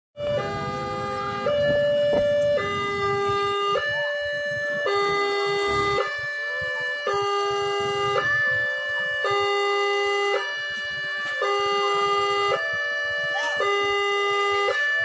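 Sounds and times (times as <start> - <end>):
level crossing two-tone alarm: 0.2 - 15.0.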